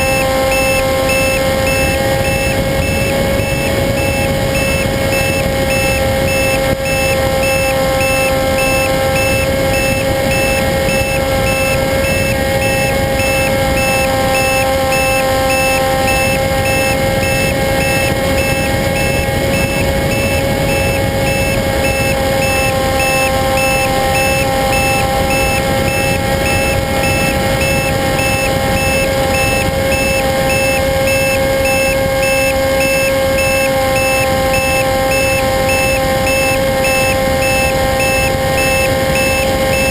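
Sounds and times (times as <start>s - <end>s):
model airplane motor whine: 0.0s - 39.9s
wind noise: 0.0s - 39.9s.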